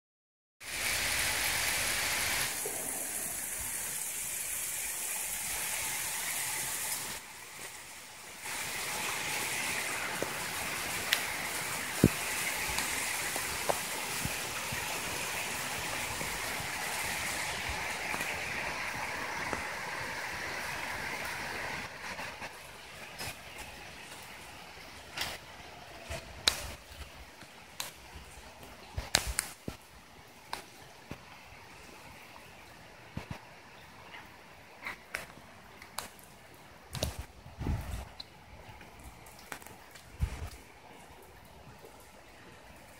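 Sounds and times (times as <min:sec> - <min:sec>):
rain on wet asphalt: 0:00.6 - 0:42.9.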